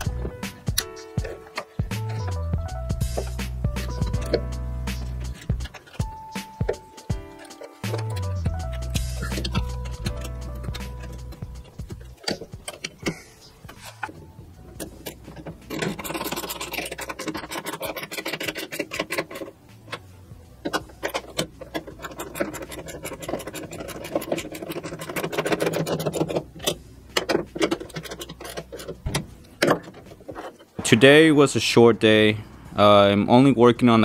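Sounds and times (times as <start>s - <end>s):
metal tools clicking and clanking: 0.0s - 31.2s.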